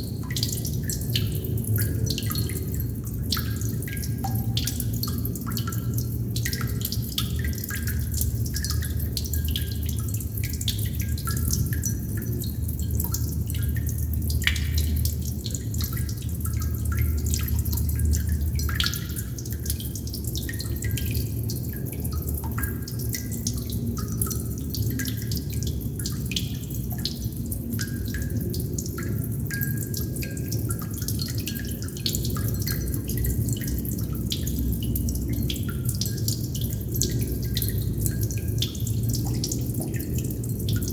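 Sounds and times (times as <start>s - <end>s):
water droplets dripping: 0.0s - 40.9s.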